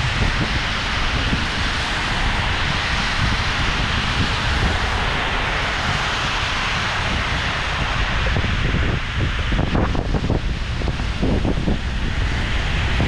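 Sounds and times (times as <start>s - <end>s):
car tyres on wet road: 0.0s - 13.0s
rain hissing: 0.0s - 13.0s
wind rumbling on microphone: 0.0s - 13.0s.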